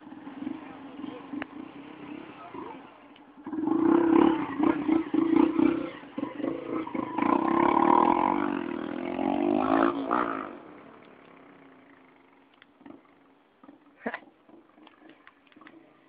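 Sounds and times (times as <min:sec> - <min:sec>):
motorcycle engine revving high: 0:00.0 - 0:15.2.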